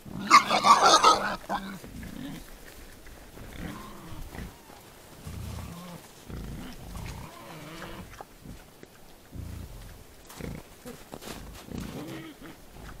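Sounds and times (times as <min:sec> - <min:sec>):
wild boars grunting: 0:00.0 - 0:13.0.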